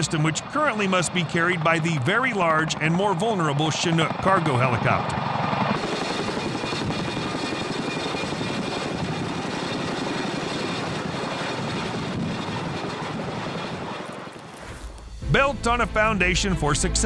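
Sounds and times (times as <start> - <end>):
helicopter hovering overhead: 0.0 - 17.0.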